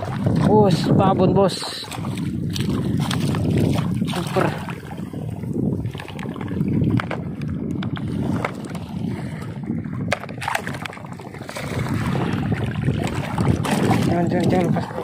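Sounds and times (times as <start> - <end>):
water sloshing: 0.0 - 15.0
wind rumbling on microphone: 0.0 - 15.0.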